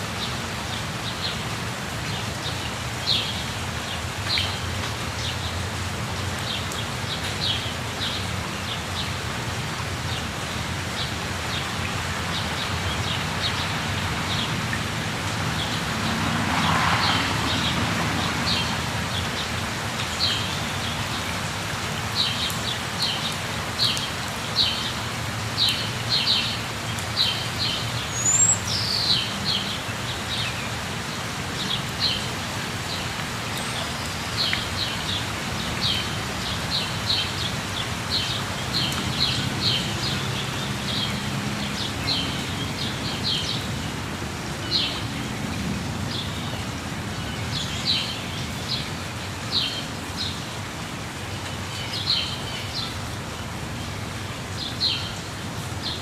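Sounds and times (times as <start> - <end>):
rush of falling water: 0.0 - 56.0.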